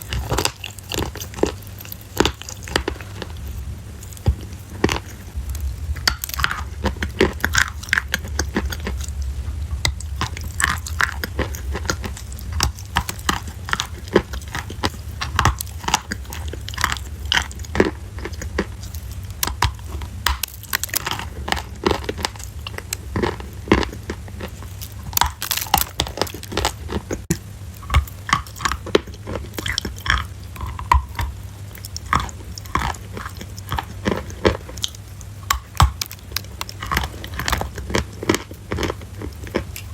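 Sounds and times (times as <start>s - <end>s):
crunchy food chewing: 0.0s - 39.9s
steady low hum: 0.0s - 39.9s.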